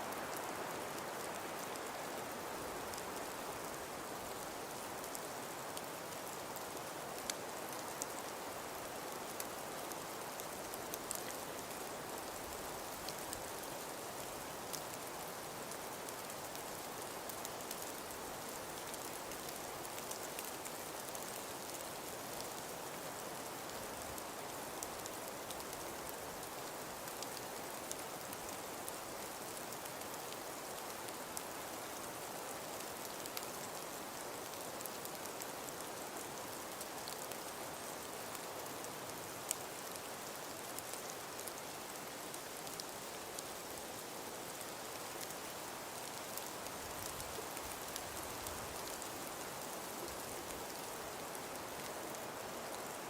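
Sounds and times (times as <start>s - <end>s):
fine ticks of snow grains: 0.1s - 53.0s.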